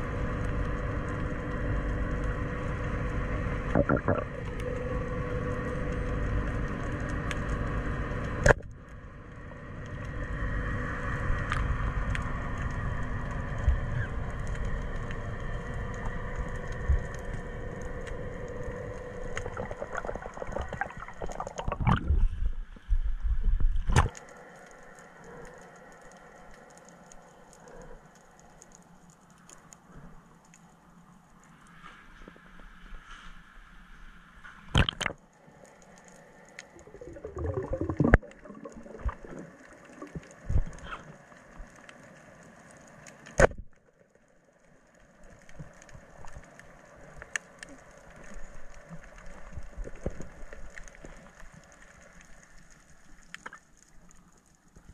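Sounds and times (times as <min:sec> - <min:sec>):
faint steady hum: 0:00.0 - 0:54.9
underwater rumble: 0:00.0 - 0:54.9.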